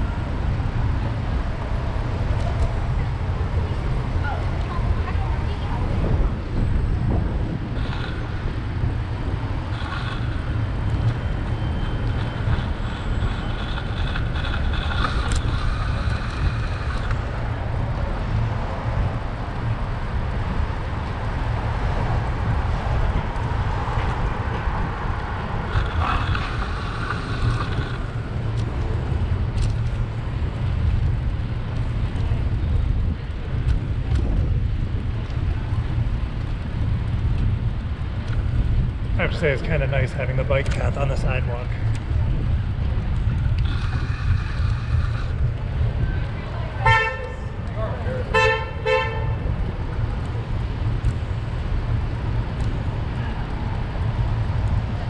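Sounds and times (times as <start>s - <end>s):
street traffic passing: 0.0s - 55.0s
wind rumbling on microphone: 0.0s - 55.0s.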